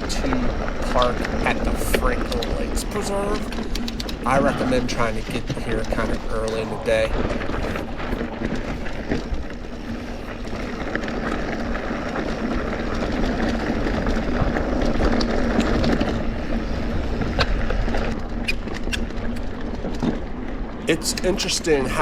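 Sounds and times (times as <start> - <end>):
bike clicks and rattles: 0.0 - 22.0
tyre and wind noise: 0.0 - 22.0.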